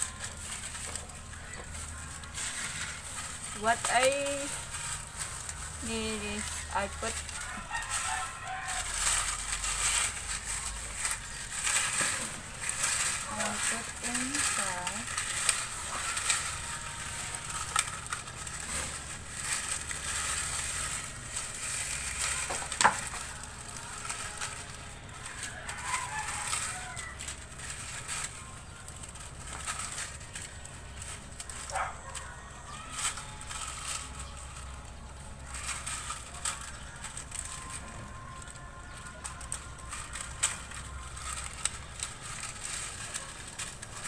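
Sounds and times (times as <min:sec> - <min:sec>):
plastic bottles crackling: 0:00.0 - 0:44.0.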